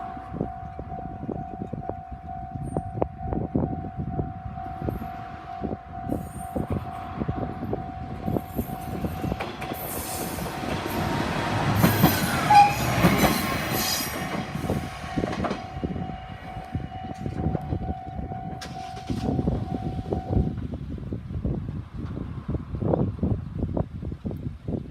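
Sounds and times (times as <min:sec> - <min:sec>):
diesel railcar passing: 0:00.0 - 0:23.5.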